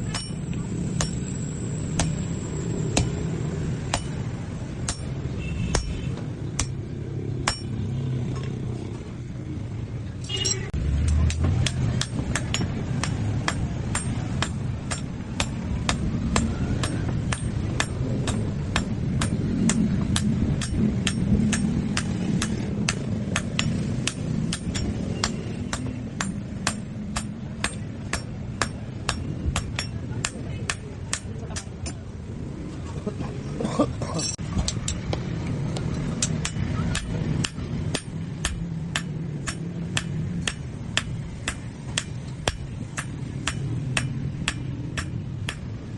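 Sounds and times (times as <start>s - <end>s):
hammer striking steel on anvil: 0.0s - 2.3s, 2.9s - 6.8s, 7.4s - 7.8s, 10.3s - 32.0s, 35.9s - 45.8s.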